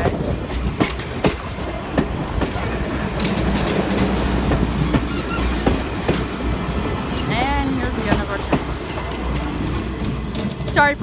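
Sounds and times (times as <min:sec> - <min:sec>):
train rumble: 0:00.0 - 0:11.0
train wheels clicking over rail joints: 0:00.0 - 0:11.0.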